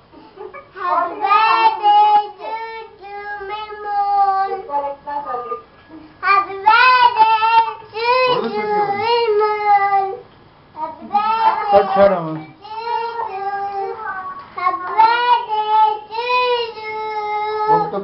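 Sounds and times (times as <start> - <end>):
child singing: 0.8 - 4.7, 6.2 - 18.0.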